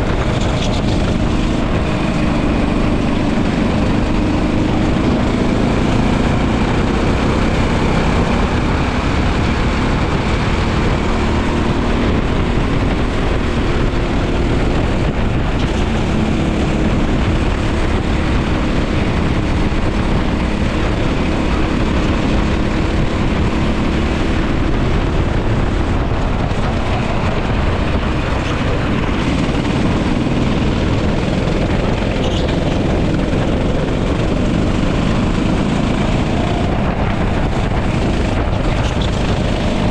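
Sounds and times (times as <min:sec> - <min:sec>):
go-kart engine at speed: 0:00.0 - 0:39.9
wind rushing: 0:00.0 - 0:39.9.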